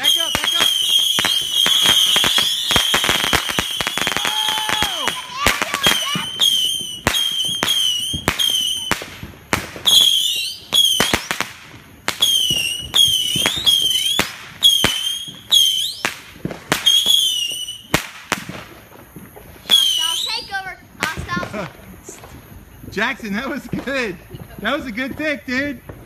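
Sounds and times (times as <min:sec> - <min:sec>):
fireworks cracking pops: 0:00.0 - 0:26.0
fireworks rockets whistling: 0:00.0 - 0:26.0.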